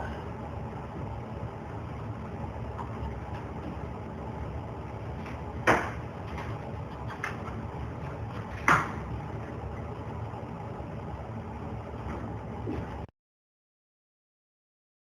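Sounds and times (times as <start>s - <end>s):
steady low rumble: 0.0s - 13.1s.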